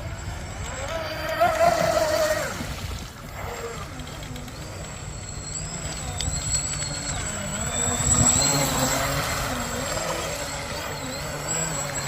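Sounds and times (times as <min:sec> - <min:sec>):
electric motor of toy boat whining: 0:00.0 - 0:12.0.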